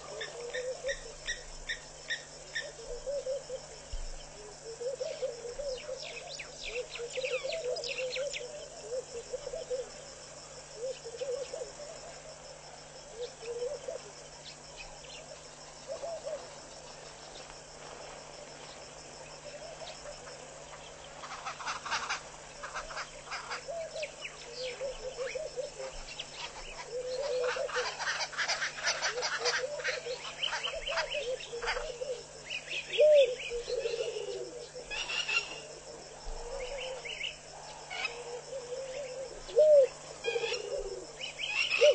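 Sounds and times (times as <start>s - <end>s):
insect chorus: 0.0s - 41.9s.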